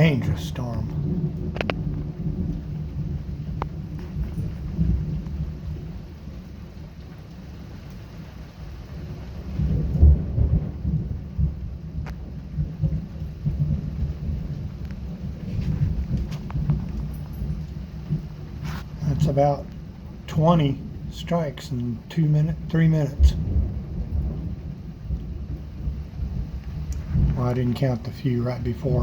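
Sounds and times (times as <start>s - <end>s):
steady rain: 0.0s - 29.0s
thunder rumbling: 0.0s - 29.0s.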